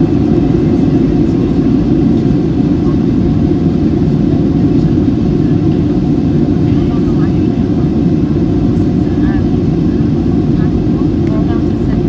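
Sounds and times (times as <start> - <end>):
airliner engines droning in cabin: 0.0 - 12.0.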